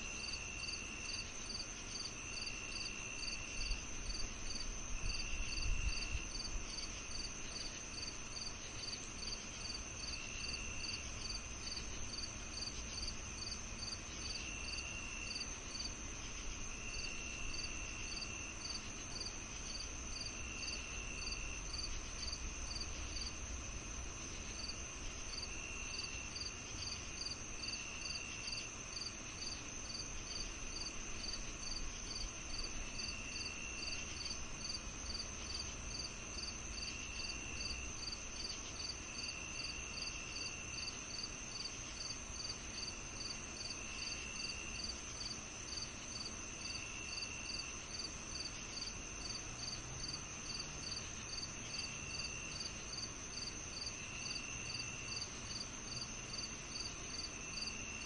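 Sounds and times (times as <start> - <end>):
crickets chirping: 0.0 - 58.0
insects high whine: 0.0 - 58.0.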